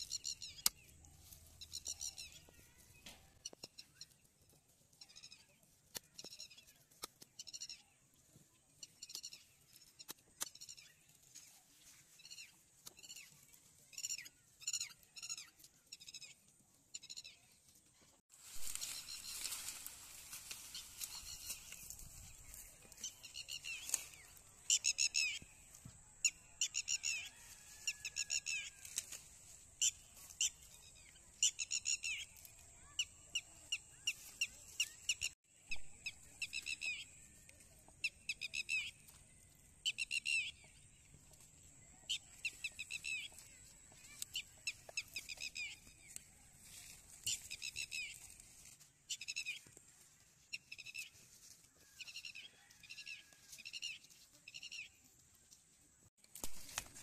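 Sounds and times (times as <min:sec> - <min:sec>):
small bird chirping: 0:00.0 - 0:17.6, 0:18.5 - 0:49.8.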